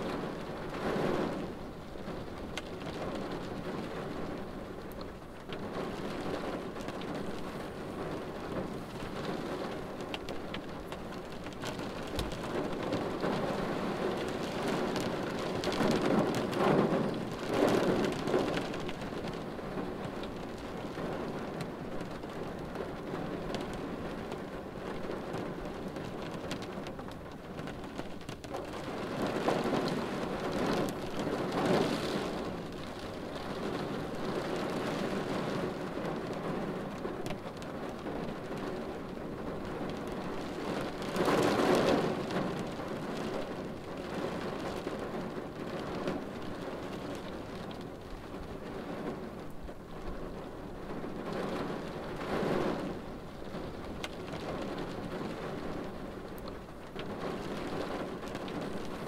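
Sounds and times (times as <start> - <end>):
rain on car windshield: 0.0 - 59.0.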